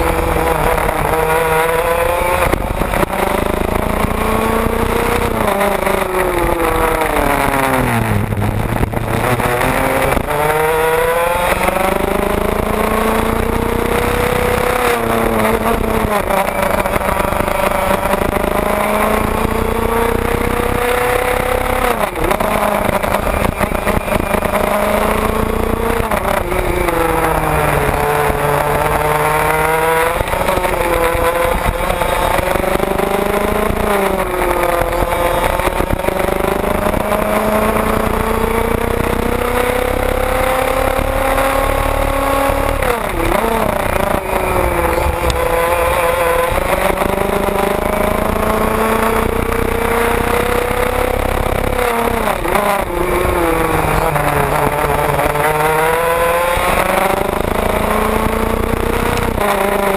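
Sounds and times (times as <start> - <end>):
kart engine revving: 0.0 - 59.9
second kart engine: 0.0 - 59.9.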